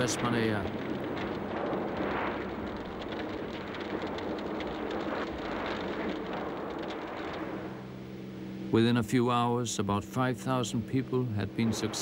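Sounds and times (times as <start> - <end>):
lava fountain roaring and crackling: 0.0 - 12.0.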